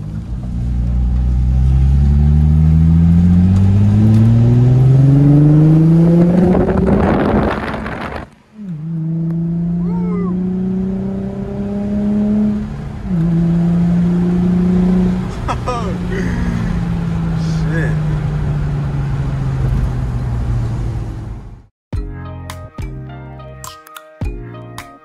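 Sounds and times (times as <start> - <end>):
car engine accelerating hard: 0.0 - 21.6.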